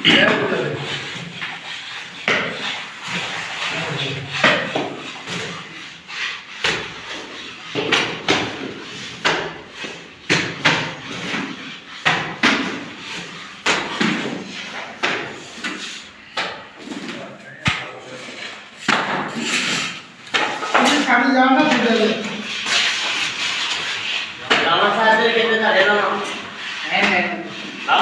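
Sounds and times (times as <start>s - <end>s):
trowel slapping mortar on wall: 0.1s - 28.0s.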